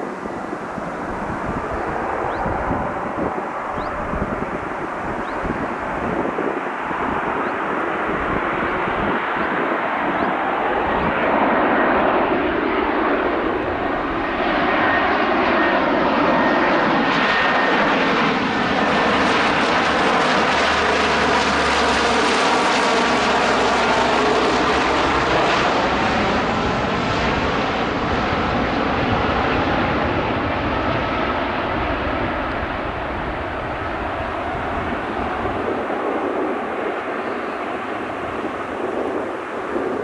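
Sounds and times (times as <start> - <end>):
turboprop engines droning: 0.0 - 40.0.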